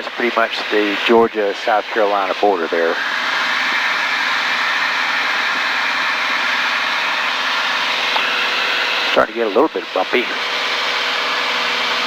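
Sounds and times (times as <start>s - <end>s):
propeller airplane cockpit drone: 0.0s - 12.0s.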